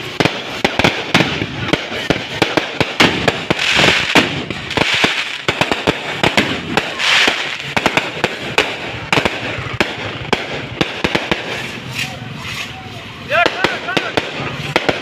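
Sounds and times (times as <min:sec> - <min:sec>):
fireworks crackling hiss: 0:00.0 - 0:15.0
fireworks cracks and bangs: 0:00.0 - 0:15.0.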